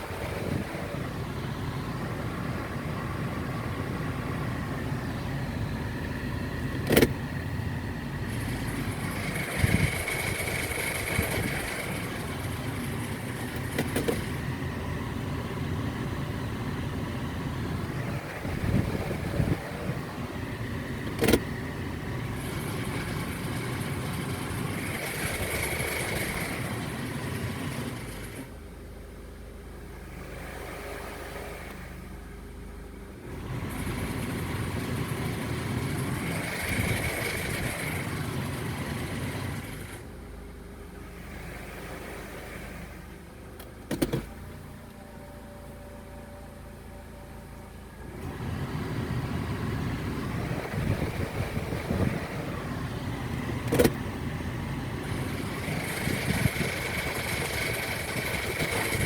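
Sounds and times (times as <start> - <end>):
car noise: 0.0 - 59.0.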